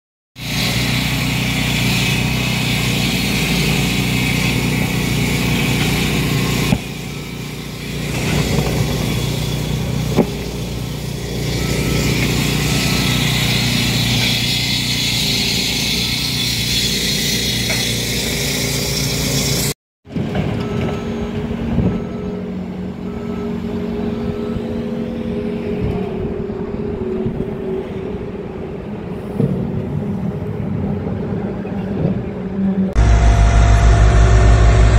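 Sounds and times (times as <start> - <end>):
construction machinery engines running: 0.4 - 34.9.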